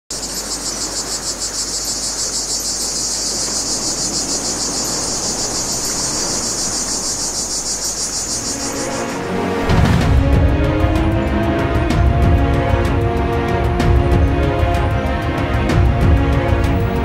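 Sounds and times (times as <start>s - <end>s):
insects chirping: 0.1s - 15.5s.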